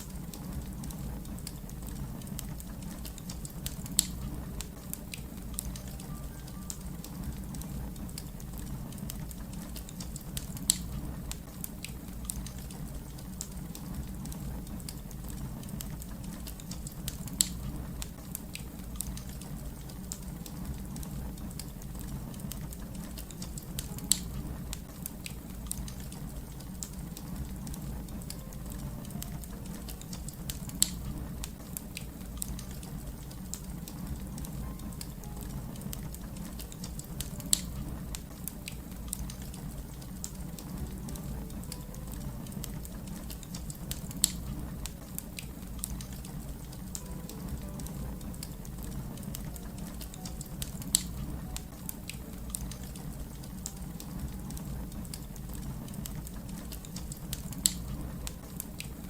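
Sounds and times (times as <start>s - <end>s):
fire popping: 0.0s - 59.0s
wood fire crackling: 0.0s - 59.0s.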